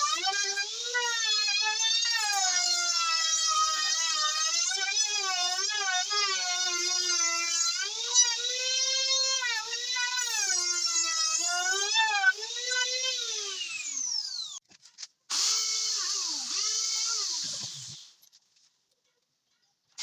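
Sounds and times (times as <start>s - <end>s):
power drill whining: 0.0s - 14.6s, 15.3s - 18.2s.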